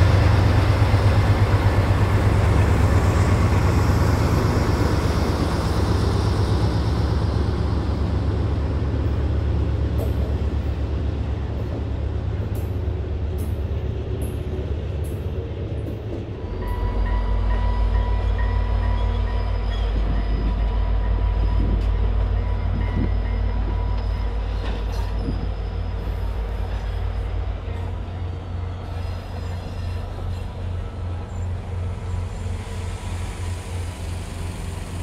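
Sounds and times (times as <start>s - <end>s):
diesel locomotive rumble: 0.0s - 35.0s
freight train rumbling past: 0.0s - 35.0s.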